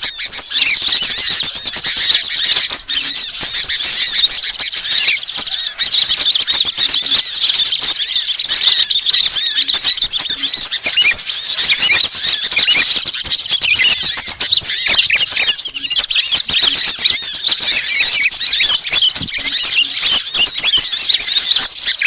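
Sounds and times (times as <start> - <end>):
chorus of songbirds chirping: 0.0 - 22.0.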